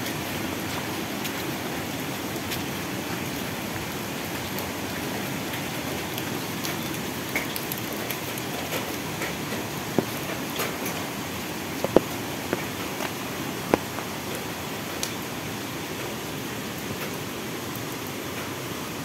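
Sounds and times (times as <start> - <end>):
heavy rain falling: 0.0 - 19.0
raindrops ticking: 0.0 - 19.0.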